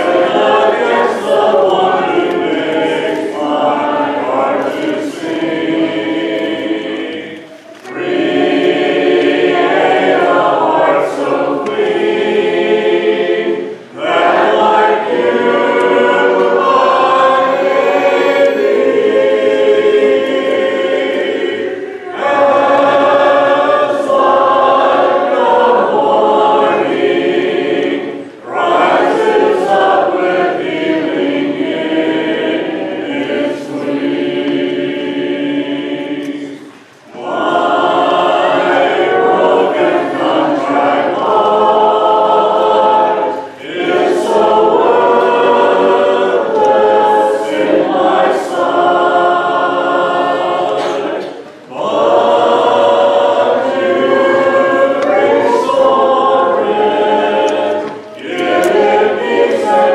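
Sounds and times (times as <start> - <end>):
congregation singing a hymn: 0.0 - 59.9.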